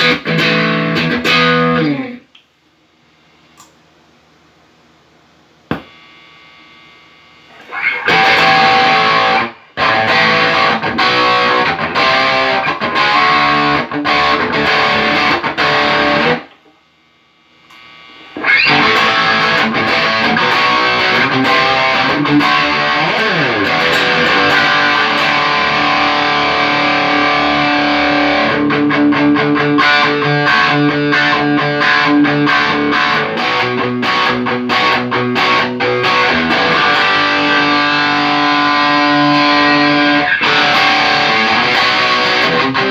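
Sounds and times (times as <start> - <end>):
distorted electric guitar: 0.0 - 2.3, 5.7 - 16.7, 17.7 - 42.9.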